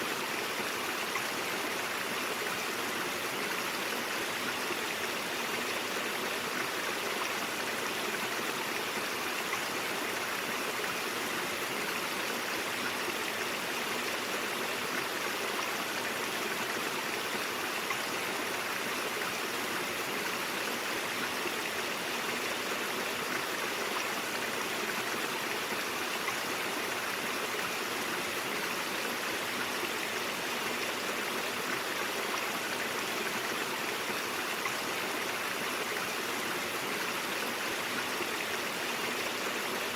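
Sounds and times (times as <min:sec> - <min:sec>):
brook water flowing: 0:00.0 - 0:39.9.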